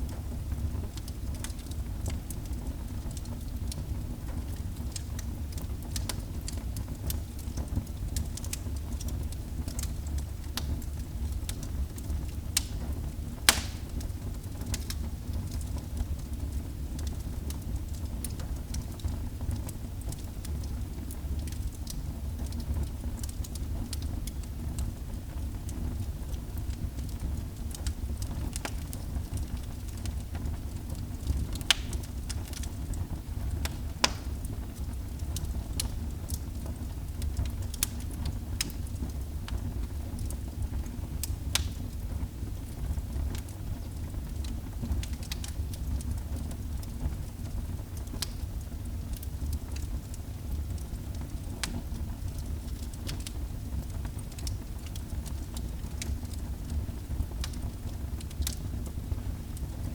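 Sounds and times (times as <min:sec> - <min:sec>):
fire crackles and pops: 0:00.0 - 0:59.9
fire roaring: 0:00.0 - 0:59.9.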